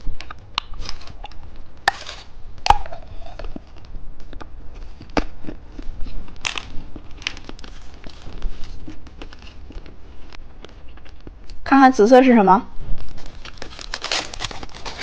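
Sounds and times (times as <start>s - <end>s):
plastic packaging crinkling: 0.3s - 11.6s, 12.9s - 15.0s.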